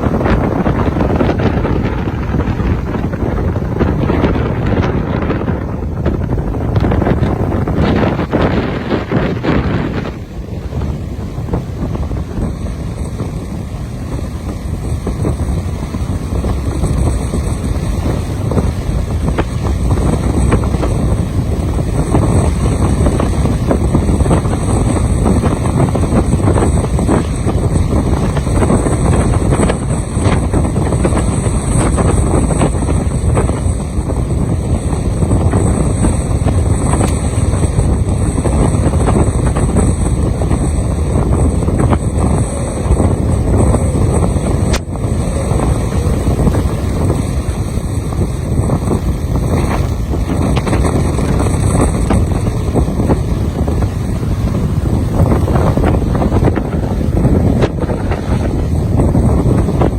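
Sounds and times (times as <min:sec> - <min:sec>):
choppy sea washing: 0:00.0 - 0:59.9
wind buffeting microphone: 0:00.0 - 0:59.9.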